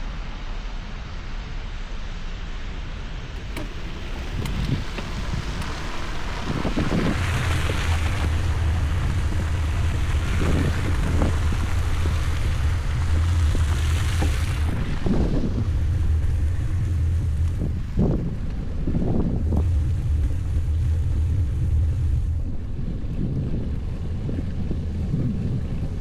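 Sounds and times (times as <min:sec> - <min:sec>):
wind buffeting microphone: 0:03.4 - 0:26.0.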